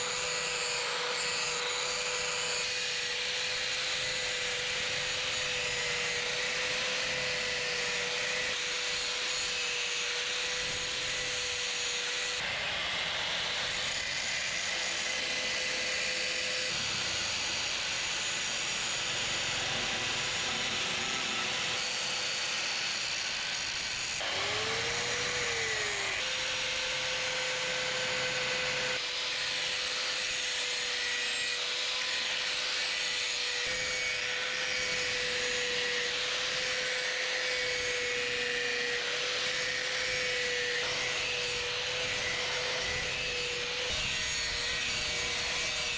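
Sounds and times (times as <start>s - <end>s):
electric grinder grinding steel: 0.0s - 45.9s.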